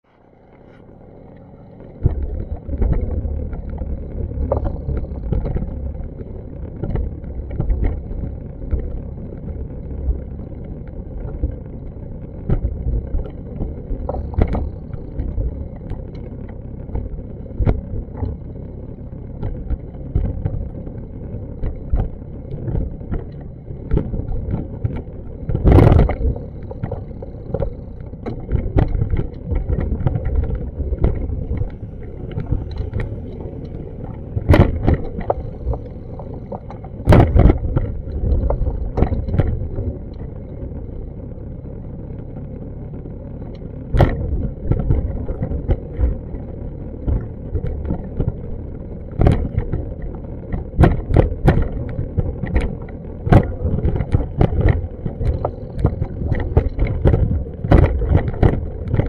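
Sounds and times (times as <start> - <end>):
muffled low city rumble: 0.0 - 59.0.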